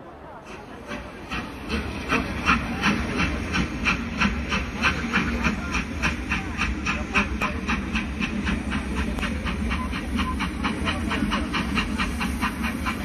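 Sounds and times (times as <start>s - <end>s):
fast even clatter with hiss: 0.4s - 13.0s.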